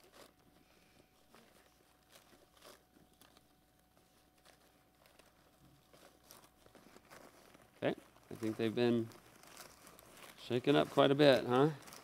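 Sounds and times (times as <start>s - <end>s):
paper tickets rustling in a bowl: 1.3s - 12.0s.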